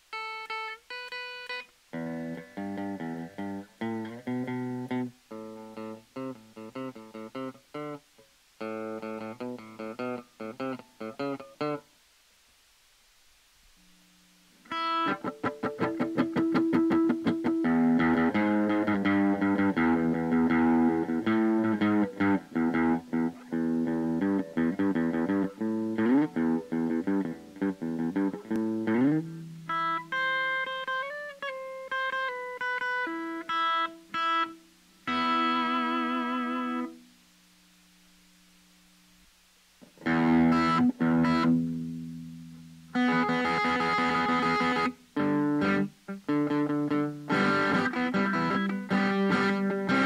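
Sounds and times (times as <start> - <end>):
electric guitar playing: 0.0 - 8.0, 8.6 - 11.9, 14.6 - 37.2, 39.8 - 50.0.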